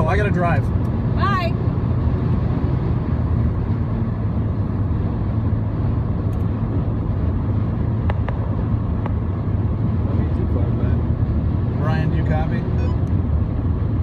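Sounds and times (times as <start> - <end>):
car cabin rumble: 0.1 - 14.0.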